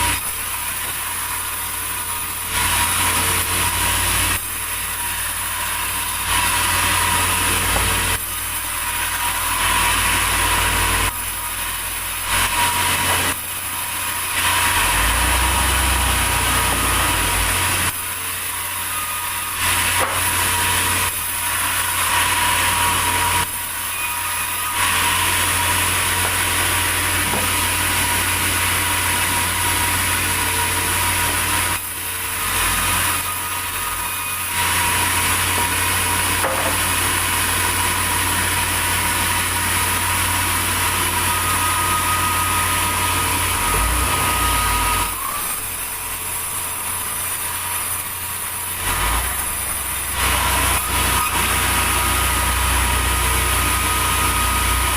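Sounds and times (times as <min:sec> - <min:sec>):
saw blade rasping through log: 0:00.0 - 0:54.9.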